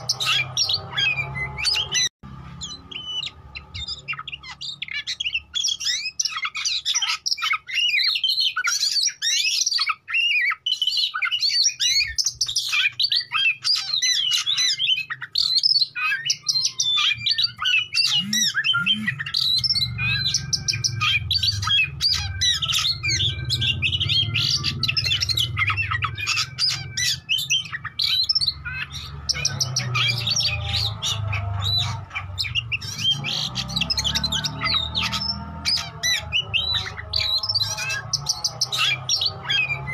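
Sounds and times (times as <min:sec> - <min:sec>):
songbird whistling and chirping: 0:00.0 - 0:39.9.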